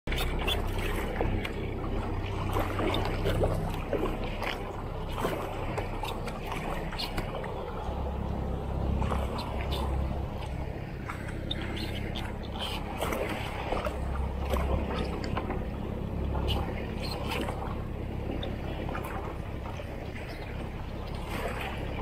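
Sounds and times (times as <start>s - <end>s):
kayak paddle splashes: 0.1s - 22.0s
motorboat engine humming: 0.1s - 22.0s
water rushing in wake: 0.1s - 22.0s.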